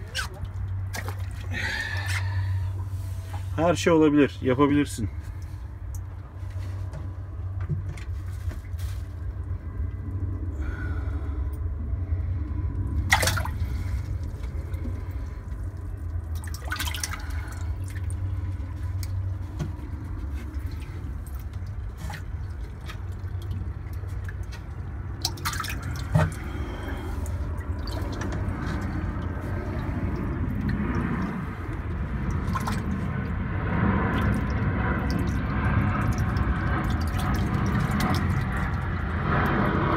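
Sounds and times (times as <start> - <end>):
water sloshing in tank: 0.0 - 39.8
steady low hum: 0.0 - 39.9.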